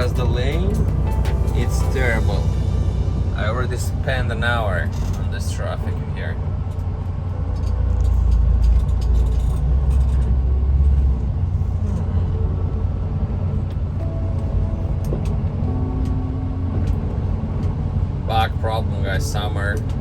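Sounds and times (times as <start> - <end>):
truck engine and road rumble: 0.0 - 20.0.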